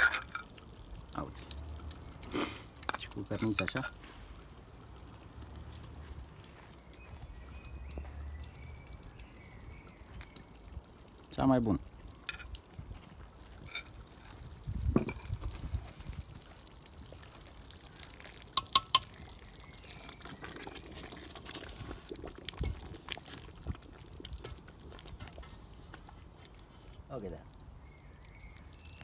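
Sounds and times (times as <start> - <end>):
stew plopping and trickling: 0.0 - 29.0.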